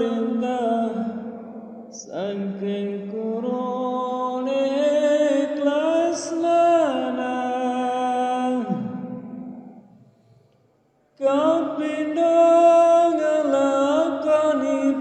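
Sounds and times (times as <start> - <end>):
man chanting: 0.0 - 9.8, 11.2 - 15.0.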